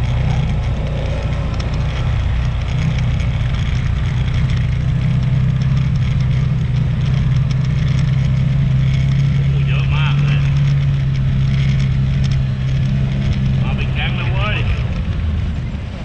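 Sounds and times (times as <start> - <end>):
tyre noise: 0.0 - 15.2
rushing wind: 0.0 - 16.0
vehicle engine droning: 0.0 - 16.0.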